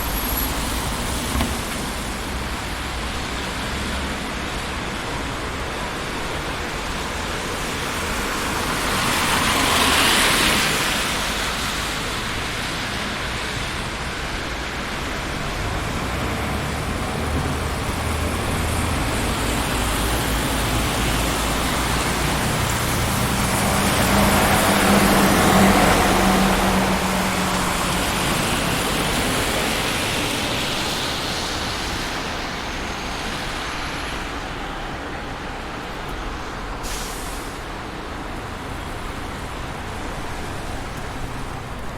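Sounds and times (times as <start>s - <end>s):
city street traffic: 0.0s - 41.9s
vehicles passing close: 0.0s - 41.9s.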